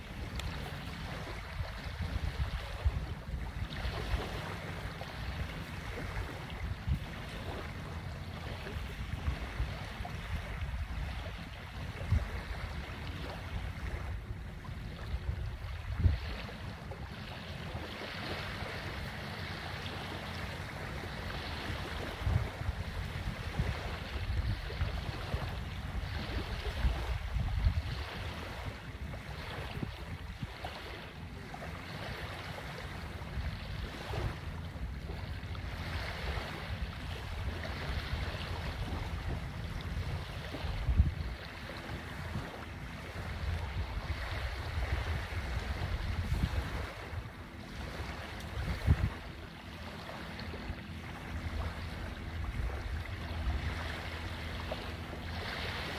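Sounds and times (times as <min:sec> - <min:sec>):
surf on a beach: 0:00.0 - 0:55.9
wind buffeting microphone: 0:00.0 - 0:55.9.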